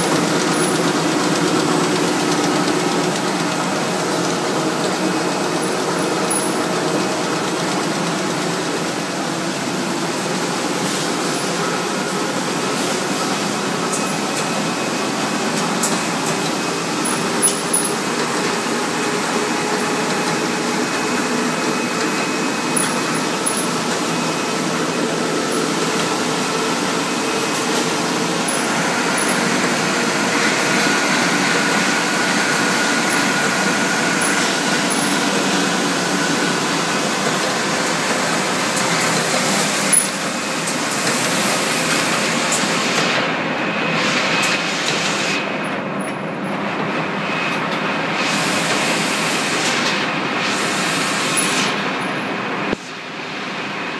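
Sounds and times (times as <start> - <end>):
paper machine running: 0.0 - 53.9.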